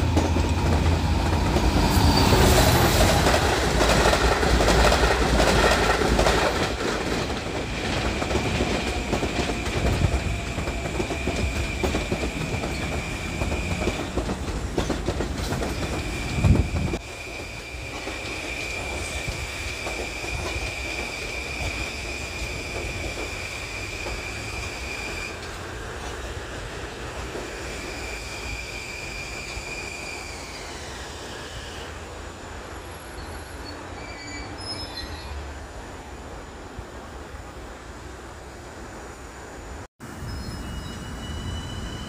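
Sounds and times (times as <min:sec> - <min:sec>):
train wheels squealing on rails: 0:00.0 - 0:32.2, 0:32.8 - 0:35.6, 0:40.1 - 0:42.0
low train rumble: 0:00.0 - 0:42.0.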